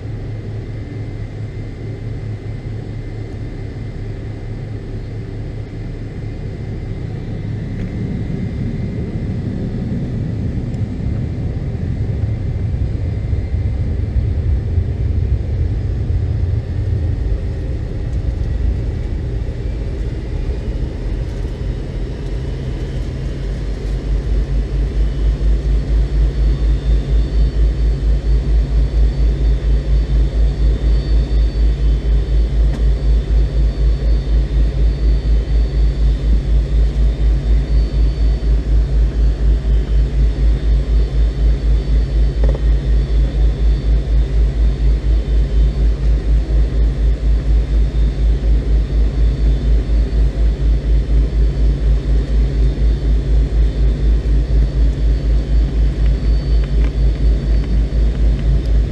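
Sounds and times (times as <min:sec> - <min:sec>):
jet engine cabin roar: 0:00.0 - 0:58.9.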